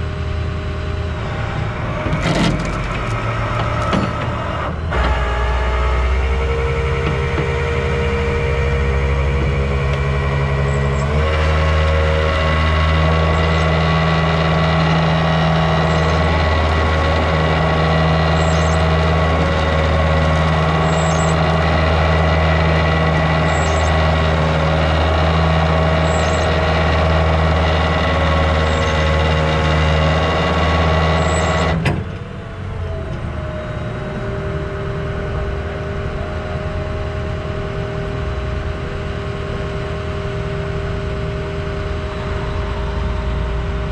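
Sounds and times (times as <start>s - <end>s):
truck engine revving: 0.0s - 43.9s
winch whine: 0.0s - 43.9s.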